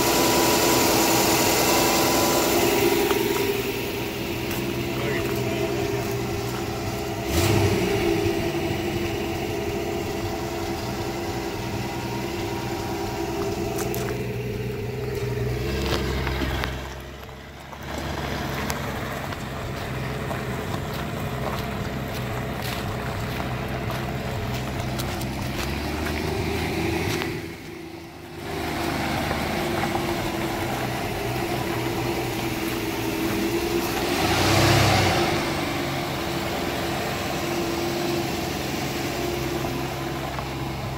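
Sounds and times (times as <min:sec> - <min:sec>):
straight-six engine idling: 0:00.0 - 0:40.9.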